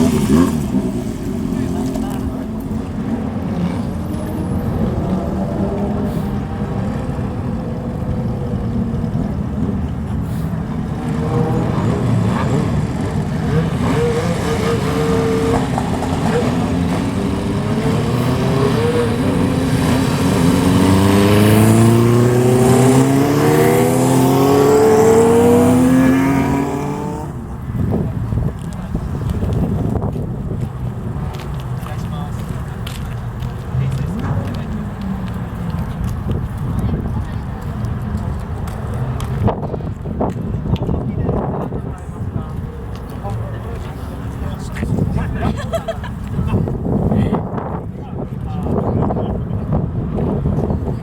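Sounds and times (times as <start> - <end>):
motorcycles riding past: 0.0 - 47.8
motorcycle revving: 0.0 - 51.0.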